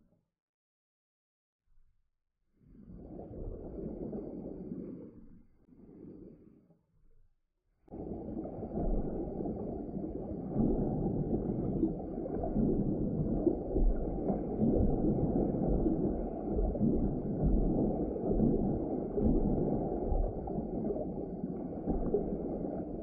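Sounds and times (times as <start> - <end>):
muffled underwater rumble: 2.6 - 6.7, 7.8 - 23.0.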